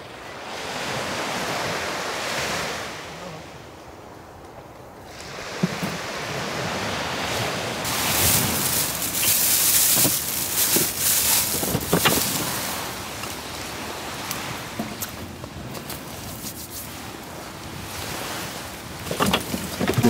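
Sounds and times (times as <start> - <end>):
sea waves washing onto beach: 0.0 - 20.0.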